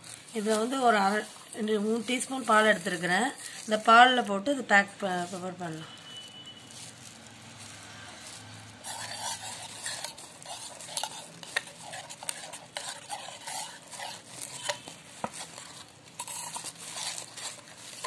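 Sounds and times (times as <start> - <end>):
spoon scraping gritty powder in bowl: 0.0 - 18.0.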